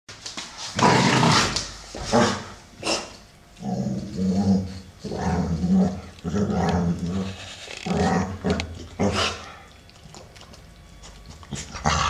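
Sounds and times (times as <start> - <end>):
dogs growling low: 0.8 - 12.0
dogs snarling: 0.8 - 12.0.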